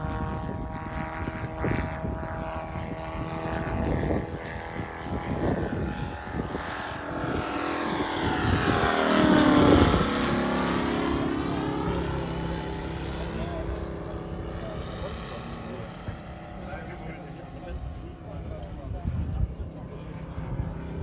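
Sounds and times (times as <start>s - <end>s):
model plane engine passing overhead: 0.0s - 21.0s.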